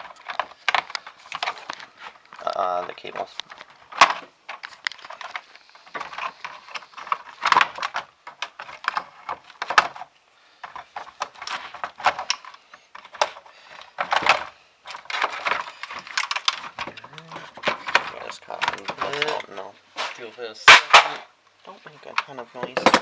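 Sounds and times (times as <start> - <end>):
scrap metal and cables clattering: 0.0 - 21.3.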